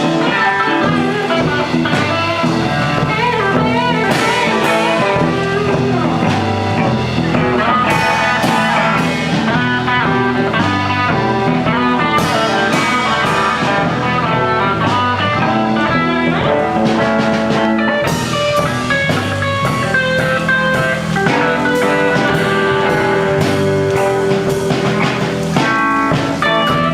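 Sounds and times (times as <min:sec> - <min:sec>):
bass guitar: 0:00.0 - 0:26.9
drums: 0:00.0 - 0:26.9
electric guitars: 0:00.0 - 0:26.9.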